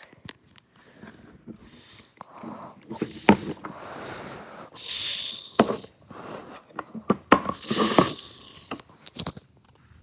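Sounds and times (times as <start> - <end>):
heavy breathing into microphone: 0.8 - 9.3.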